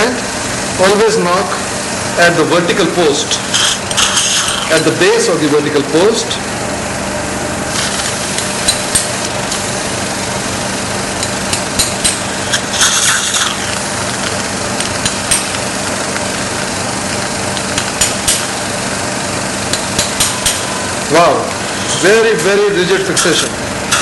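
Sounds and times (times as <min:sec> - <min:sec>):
equipment hum: 0:00.0 - 0:24.0.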